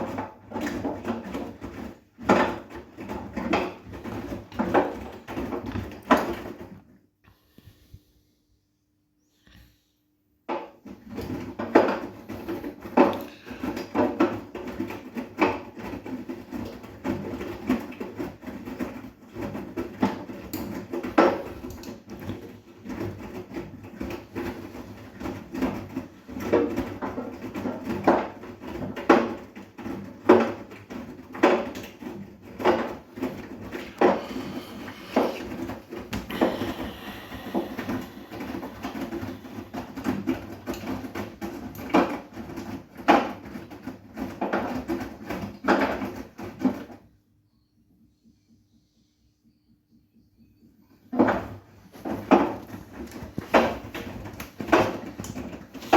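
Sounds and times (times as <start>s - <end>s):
laundry thudding in drum: 0.0s - 6.8s, 10.5s - 47.0s, 51.1s - 55.9s
washing machine drum humming: 0.0s - 6.8s, 10.7s - 47.3s, 49.6s - 55.9s.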